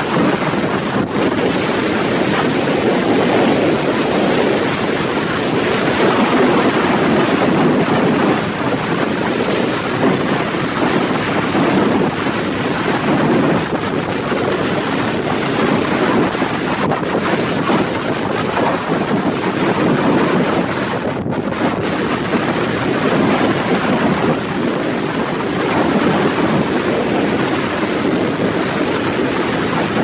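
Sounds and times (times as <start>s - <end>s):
rough sea rushing: 0.0s - 30.0s
wind buffeting microphone: 0.0s - 30.0s.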